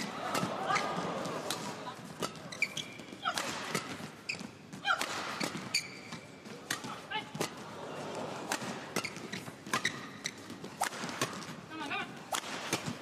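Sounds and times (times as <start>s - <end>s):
rackets hitting shuttlecock: 0.0s - 13.0s
shoes squeaking on court: 0.0s - 13.0s.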